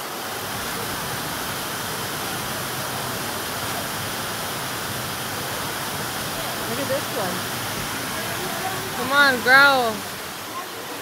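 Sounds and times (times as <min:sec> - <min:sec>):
waterfall pouring over rocks: 0:00.0 - 0:11.0.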